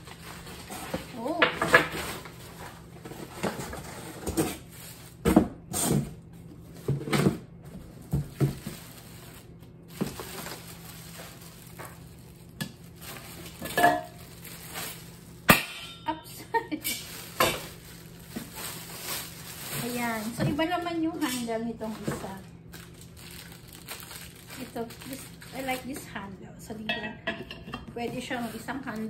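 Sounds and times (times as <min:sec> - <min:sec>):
plastic wrapping rustling: 0:00.0 - 0:05.4, 0:06.5 - 0:15.5, 0:16.5 - 0:26.3, 0:28.0 - 0:29.0.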